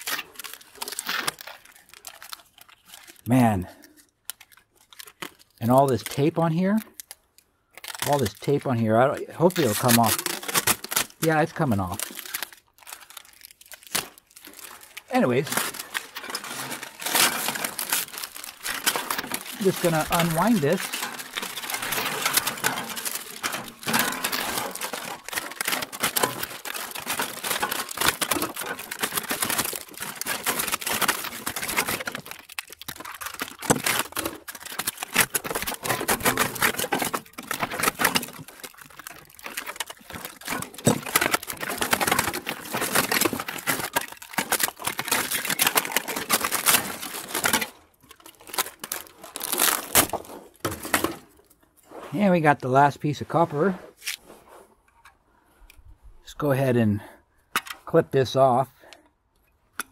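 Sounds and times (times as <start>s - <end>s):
tape and paper crinkling unwound: 0.0s - 56.4s.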